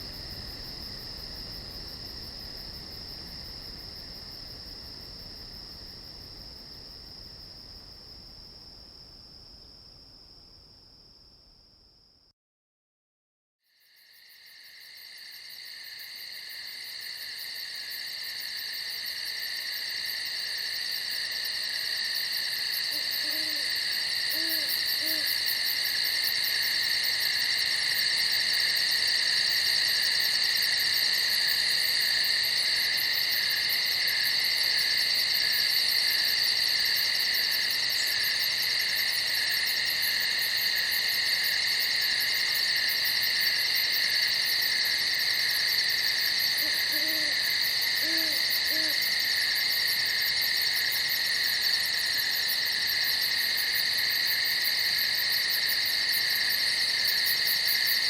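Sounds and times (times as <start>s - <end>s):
crickets chirping: 0.0s - 12.3s, 13.7s - 58.0s.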